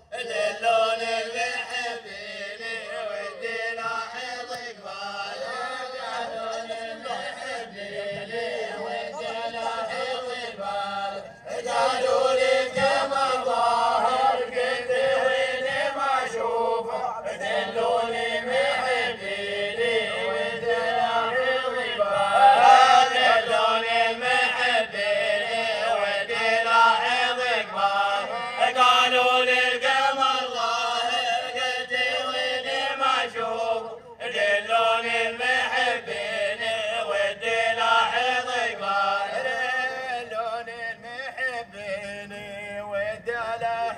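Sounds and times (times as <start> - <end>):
men chanting in unison: 0.0 - 43.9.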